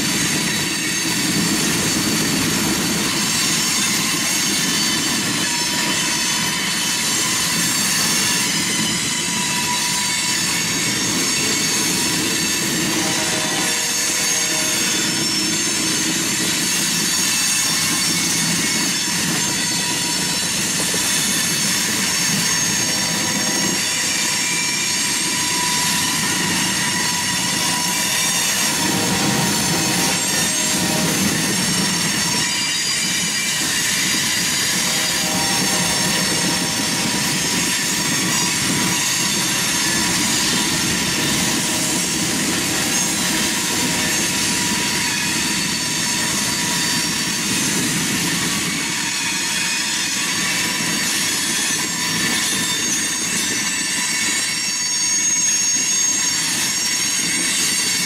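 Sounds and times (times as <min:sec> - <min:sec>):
freight train wheels rumbling: 0:00.0 - 0:58.0
high-pitched wheel squealing: 0:00.4 - 0:50.2.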